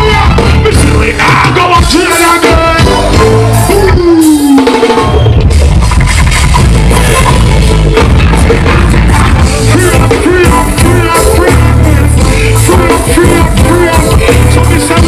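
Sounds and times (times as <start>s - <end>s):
person singing: 0.0s - 5.0s, 6.8s - 15.0s
deep heavy bass: 0.0s - 15.0s
live band playing loud music: 0.0s - 15.0s.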